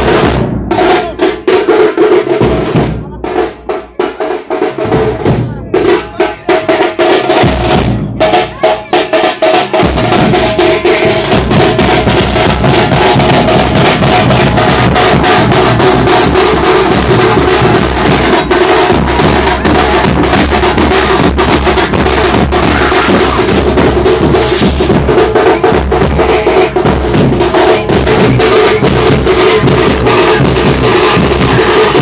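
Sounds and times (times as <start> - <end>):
drum band playing: 0.0 - 32.0.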